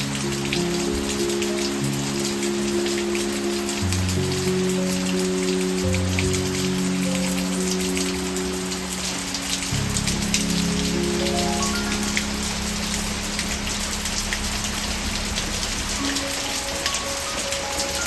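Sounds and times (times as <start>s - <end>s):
raindrops pattering close by: 0.0s - 18.0s
soft background music: 0.0s - 18.0s
steady rain falling: 0.0s - 18.0s.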